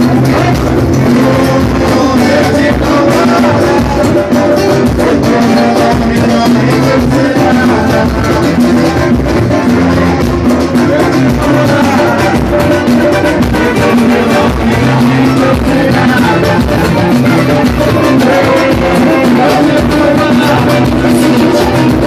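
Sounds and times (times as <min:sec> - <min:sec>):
acoustic guitar: 0:00.0 - 0:22.0
people singing: 0:00.0 - 0:22.0
samba percussion: 0:00.0 - 0:22.0.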